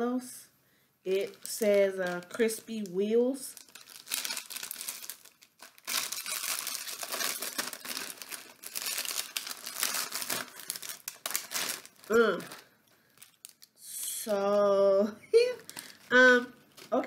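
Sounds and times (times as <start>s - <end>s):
plastic snack bag crinkling: 1.1s - 13.8s, 15.4s - 17.0s.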